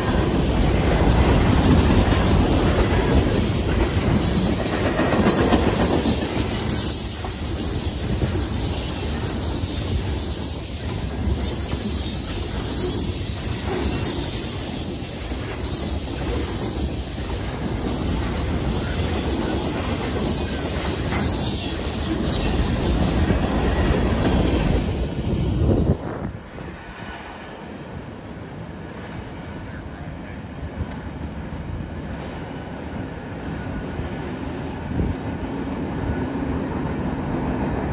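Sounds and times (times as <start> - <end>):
freight train cars rolling past: 0.0 - 37.9
steel wheels rumbling on rails: 0.0 - 37.9.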